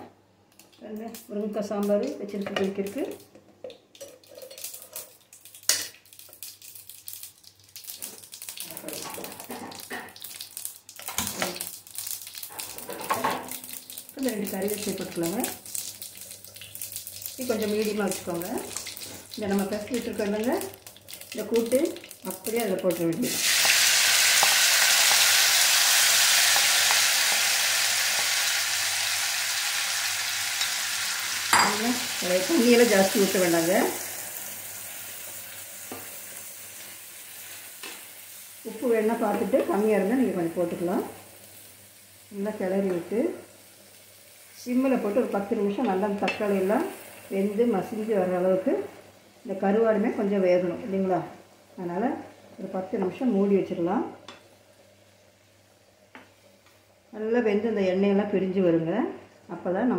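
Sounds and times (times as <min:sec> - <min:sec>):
seeds crackling in hot oil: 0:00.5 - 0:58.6.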